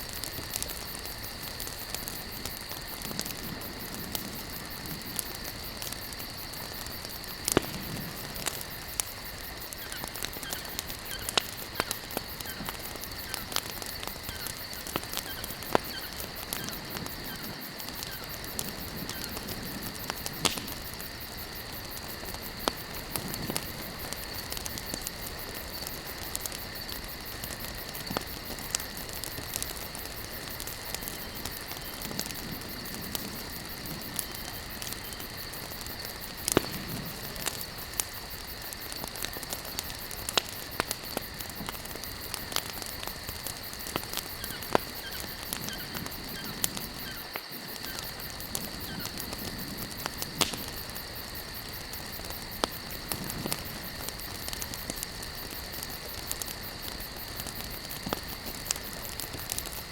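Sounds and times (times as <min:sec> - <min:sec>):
hiss of flames: 0:00.0 - 0:59.9
wood crackling and popping: 0:00.0 - 0:59.9.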